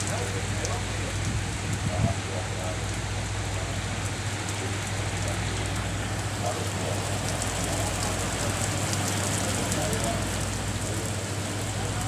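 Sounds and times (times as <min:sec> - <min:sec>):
rain on a steel deck: 0:00.0 - 0:12.0.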